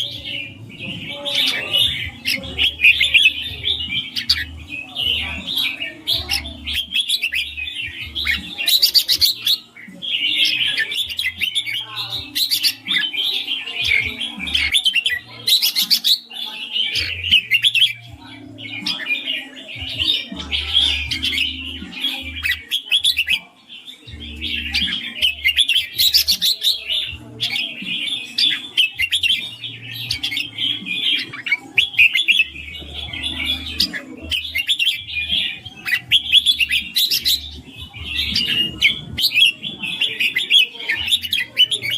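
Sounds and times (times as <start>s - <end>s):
bird singing warbled phrases: 0.0s - 41.9s.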